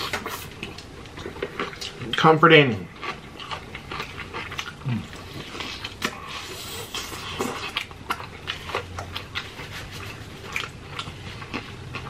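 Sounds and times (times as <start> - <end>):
chewing fried chicken: 0.0 - 12.0.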